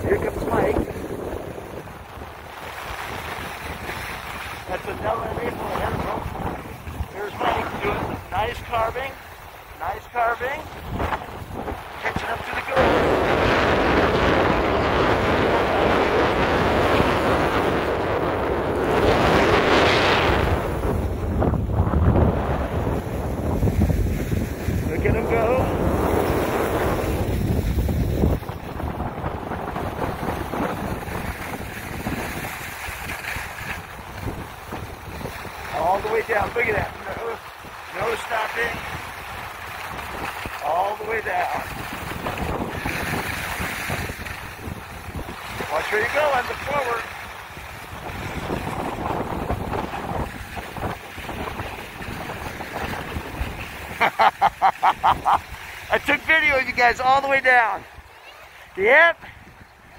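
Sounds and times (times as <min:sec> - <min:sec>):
skis sliding over snow: 0:00.0 - 0:21.1, 0:22.2 - 0:59.2
wind buffeting microphone: 0:00.0 - 0:59.9.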